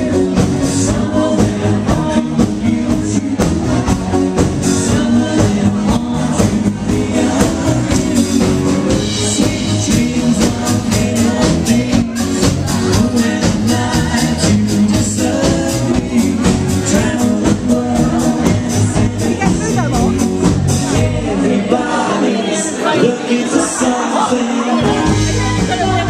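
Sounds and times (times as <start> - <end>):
live band playing dance music: 0.0 - 26.0.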